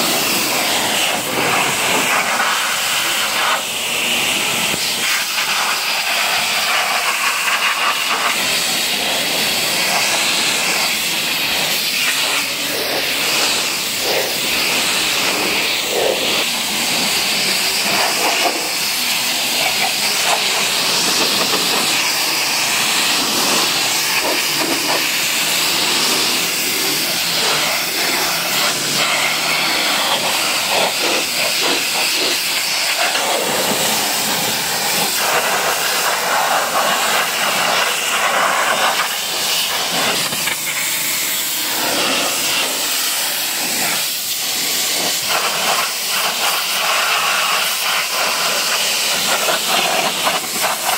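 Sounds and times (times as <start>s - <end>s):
pressure washer spraying car: 0.0s - 50.9s.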